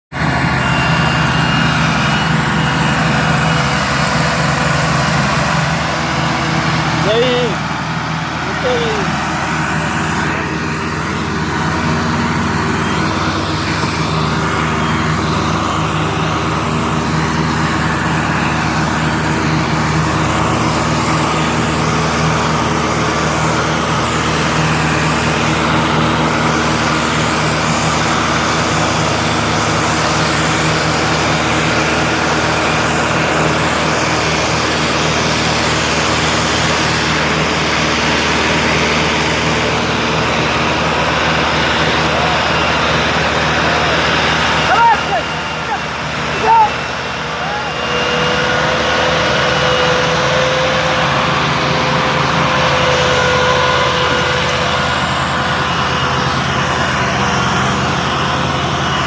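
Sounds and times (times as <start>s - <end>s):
tractor diesel engines straining: 0.0s - 59.0s.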